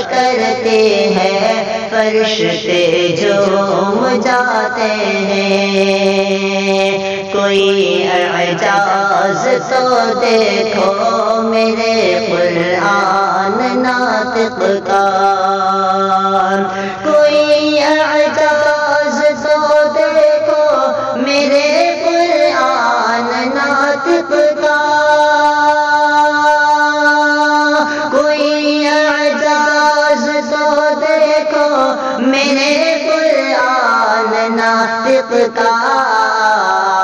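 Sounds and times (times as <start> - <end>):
man singing unaccompanied: 0.0 - 37.0.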